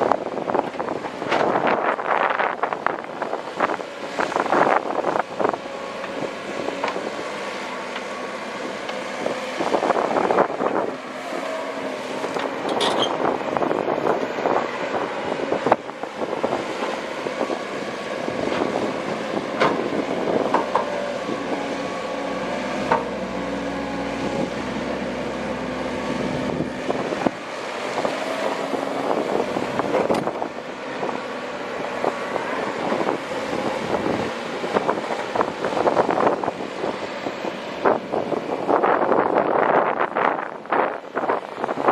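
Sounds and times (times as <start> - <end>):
excavator diesel engine running: 0.0 - 41.6.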